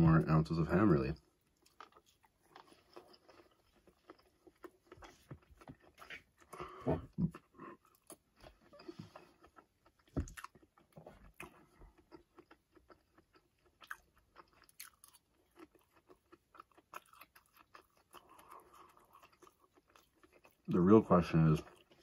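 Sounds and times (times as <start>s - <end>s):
person chewing food: 1.2s - 20.7s, 21.5s - 22.0s.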